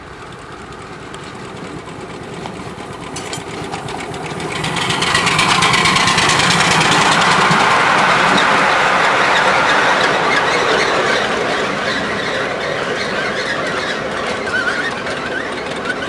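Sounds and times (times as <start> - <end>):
steam locomotive chuffing: 0.0 - 16.0.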